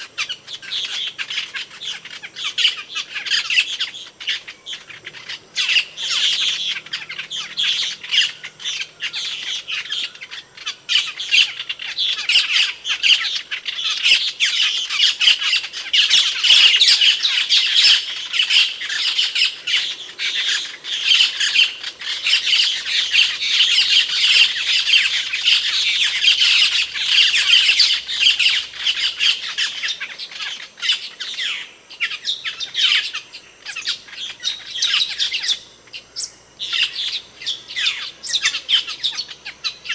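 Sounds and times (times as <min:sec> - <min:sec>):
starling rapid sharp calls: 0:00.0 - 0:39.9.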